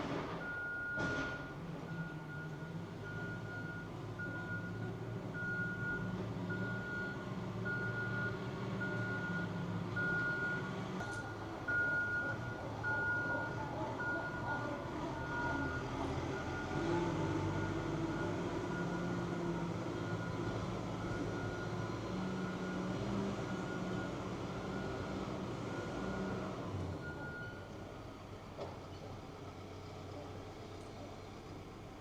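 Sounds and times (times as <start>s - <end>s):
low engine rumble: 0.0s - 32.0s
reversing alarm beeping: 0.4s - 14.6s, 15.2s - 27.7s.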